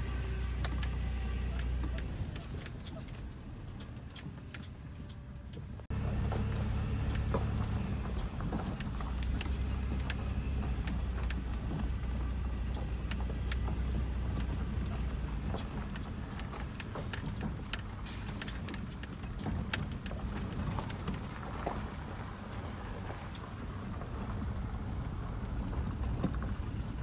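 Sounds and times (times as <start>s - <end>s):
engine and road drone: 0.0s - 27.0s
gravel clicking under tyres: 0.0s - 27.0s.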